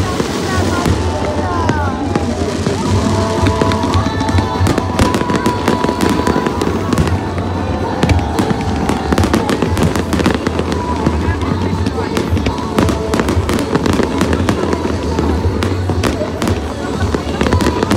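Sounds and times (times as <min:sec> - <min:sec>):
fireworks bursting and crackling: 0:00.0 - 0:17.9
music playing: 0:00.0 - 0:17.9.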